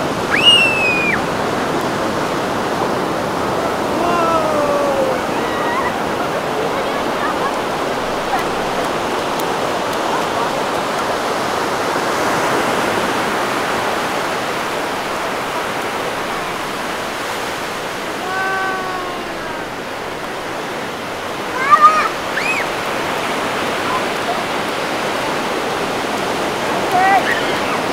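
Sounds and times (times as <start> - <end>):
ocean surf washing on beach: 0.0 - 27.9.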